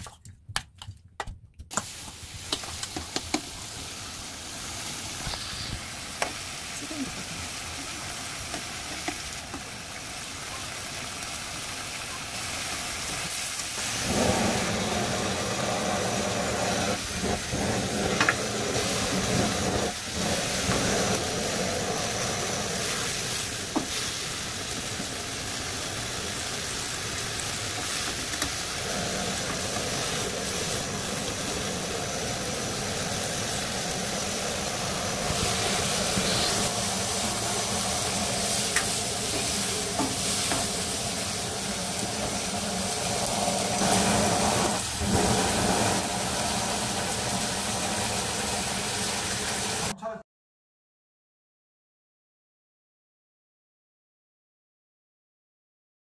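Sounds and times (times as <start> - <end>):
kitchen torch flame hissing: 1.7 - 49.9
meat sizzling in a wok: 1.8 - 49.9.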